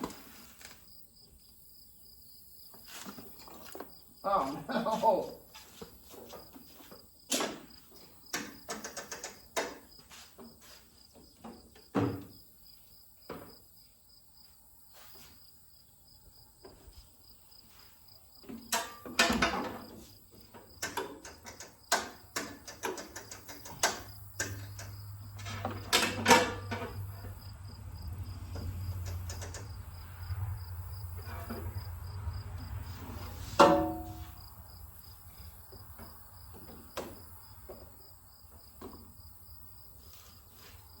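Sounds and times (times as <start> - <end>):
crickets chirping: 0.1 - 41.0.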